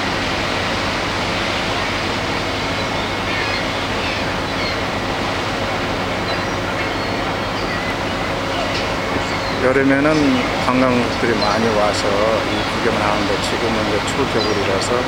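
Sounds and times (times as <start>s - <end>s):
low hum: 0.0s - 15.0s
water rushing: 0.0s - 15.0s.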